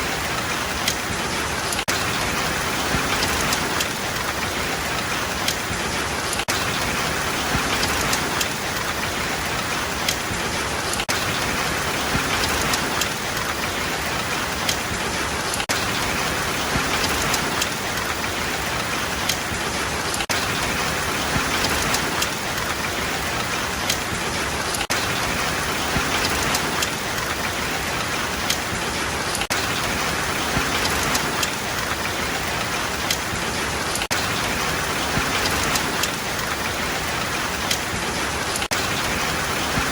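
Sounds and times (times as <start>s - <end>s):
sharp raindrop hits: 0.0s - 39.9s
steady rain hiss: 0.0s - 39.9s.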